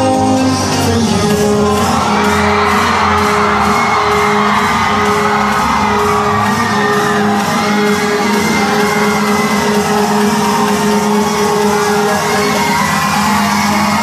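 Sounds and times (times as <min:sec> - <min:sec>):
loud dance music: 0:00.0 - 0:14.0.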